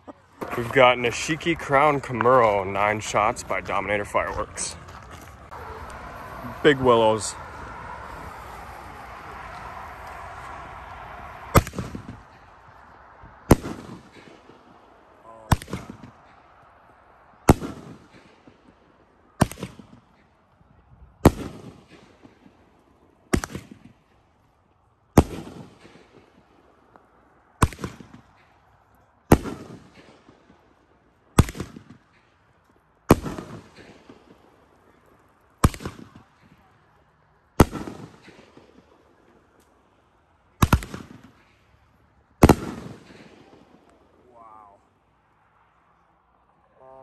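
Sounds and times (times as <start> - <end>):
fireworks bangs with echo: 0.4 - 24.2, 25.1 - 28.6, 29.2 - 32.3, 33.0 - 37.0, 37.6 - 39.6, 40.5 - 41.6, 42.4 - 44.3.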